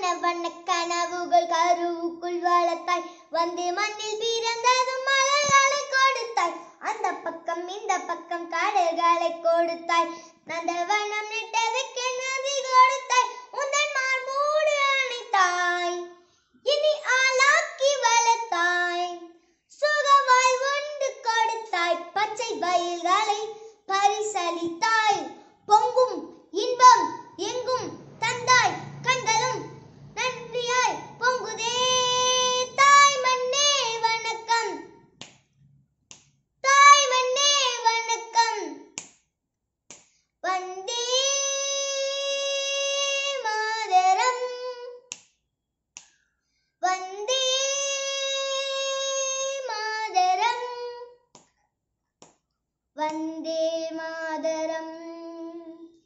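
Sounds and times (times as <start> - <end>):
boy singing unaccompanied: 0.0 - 35.0, 36.6 - 38.9, 40.4 - 45.1, 46.8 - 51.2, 53.0 - 56.0.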